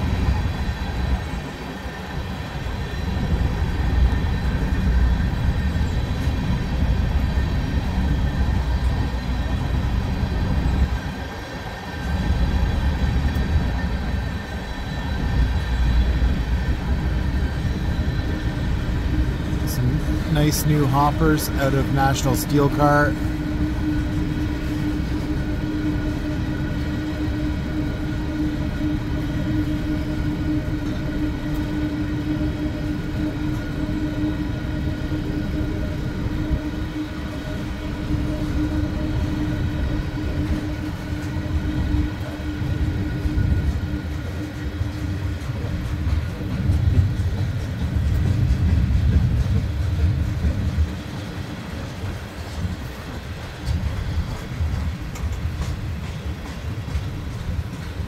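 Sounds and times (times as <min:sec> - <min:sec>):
freight cars rumbling on rails: 0:00.0 - 0:58.0
steady hum: 0:00.0 - 0:58.0.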